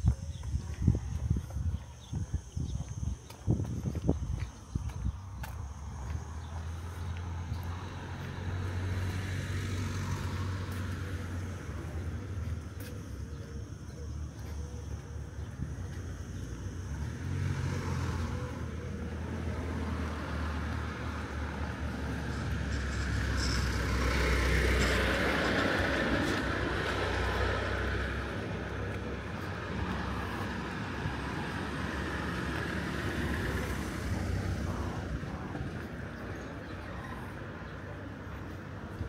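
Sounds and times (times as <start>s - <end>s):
car engine rumble: 0.0s - 39.0s.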